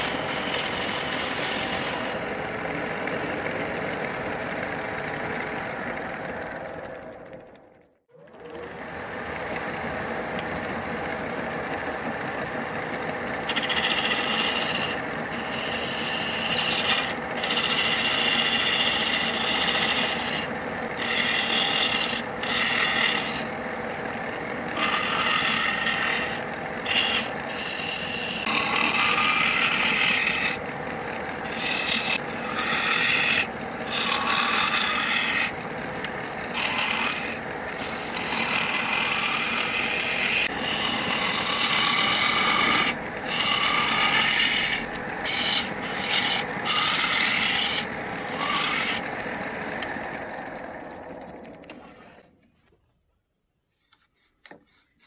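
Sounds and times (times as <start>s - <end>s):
turning tool rasping wood: 0.0s - 6.6s, 9.4s - 52.3s
lathe humming: 0.0s - 52.3s.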